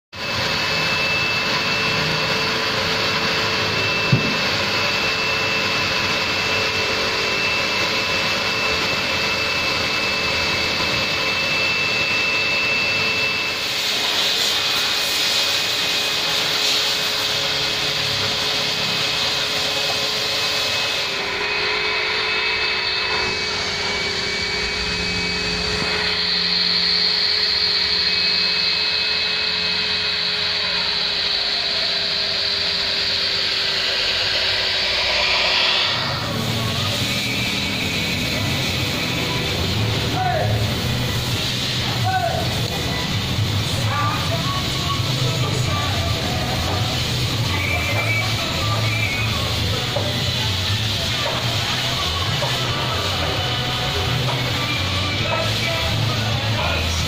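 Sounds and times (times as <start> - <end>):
wet-vac running with high whine: 0.2 - 57.0.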